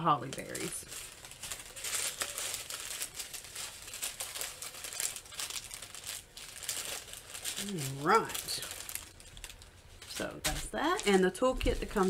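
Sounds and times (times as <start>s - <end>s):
plastic packaging crinkling: 0.1s - 12.0s.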